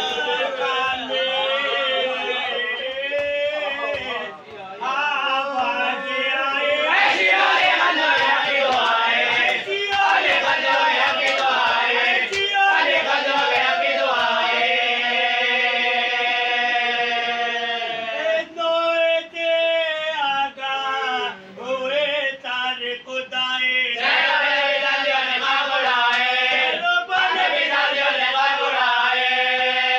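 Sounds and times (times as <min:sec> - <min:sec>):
men chanting a lament: 0:00.0 - 0:29.9.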